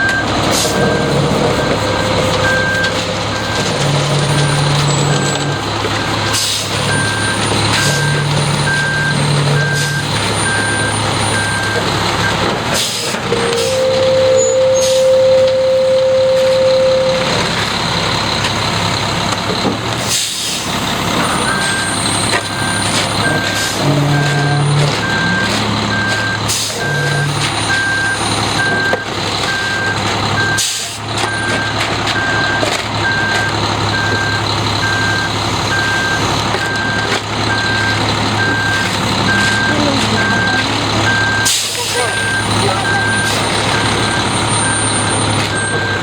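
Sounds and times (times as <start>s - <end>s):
reversing alarm beeping: 0.0s - 18.4s, 21.1s - 46.0s
truck engine running: 0.0s - 46.0s.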